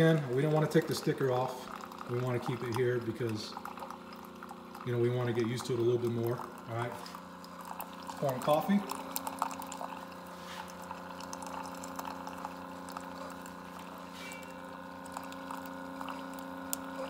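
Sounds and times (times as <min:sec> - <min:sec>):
coffee maker pump humming: 0:00.0 - 0:17.0
coffee pouring into mug: 0:00.0 - 0:17.0.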